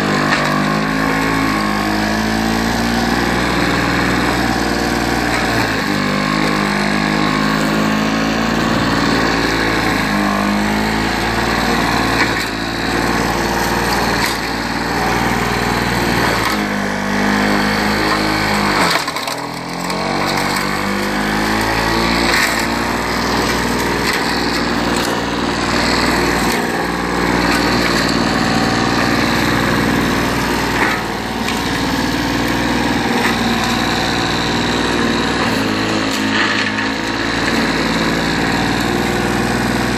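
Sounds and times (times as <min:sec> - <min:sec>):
lawnmower engine cutting grass: 0:00.0 - 0:39.9.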